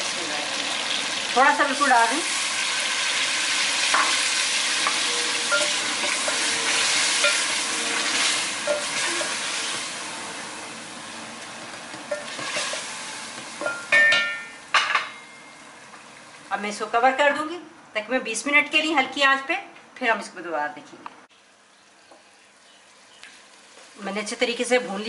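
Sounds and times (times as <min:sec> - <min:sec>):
curry sizzling in a pot: 0:00.0 - 0:16.6, 0:21.4 - 0:25.0.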